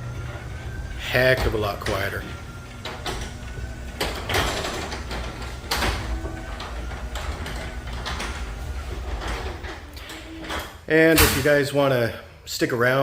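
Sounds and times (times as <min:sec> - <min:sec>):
garage door rollers clunking: 0:00.0 - 0:11.8
garage door opener humming: 0:00.0 - 0:13.0.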